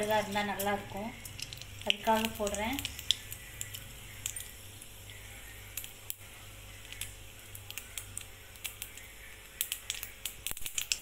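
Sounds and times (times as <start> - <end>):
mustard seeds popping in oil: 0.0 - 11.0.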